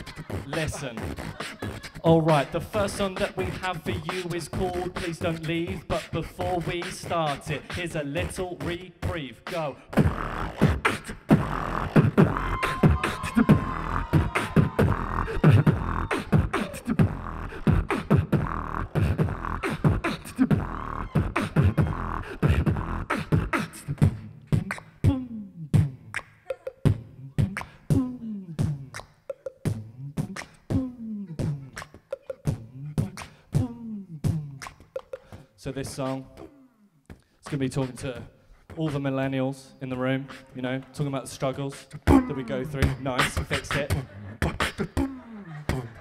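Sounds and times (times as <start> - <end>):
beatboxing into microphones: 0.0 - 46.0.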